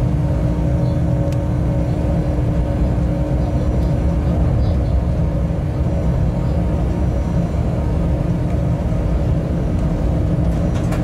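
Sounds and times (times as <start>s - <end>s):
constant hum: 0.0s - 11.0s
freight train wheels rumbling: 0.0s - 11.0s.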